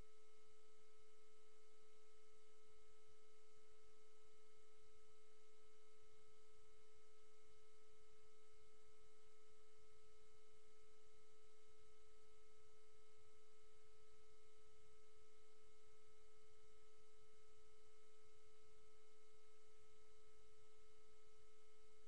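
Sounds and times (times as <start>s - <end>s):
faint steady electronic tone: 0.0s - 22.0s.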